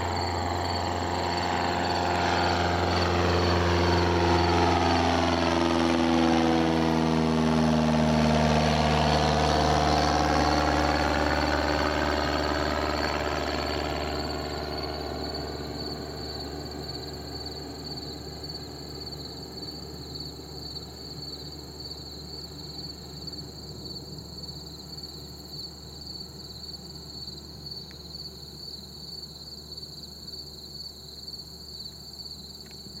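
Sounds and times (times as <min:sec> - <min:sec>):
propeller plane engine droning: 0:00.0 - 0:28.2.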